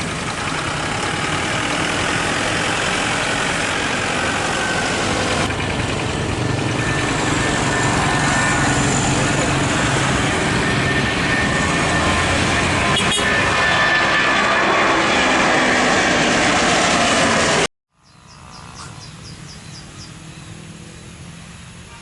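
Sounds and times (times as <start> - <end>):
jet engine roaring: 0.0 - 17.7, 18.5 - 22.0.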